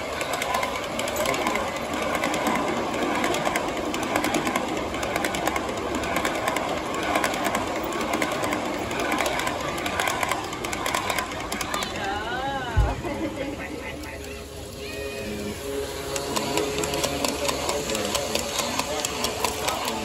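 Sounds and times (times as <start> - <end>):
model train wheels rumbling: 0.0 - 20.0
wheels clicking over rail joints: 0.0 - 20.0.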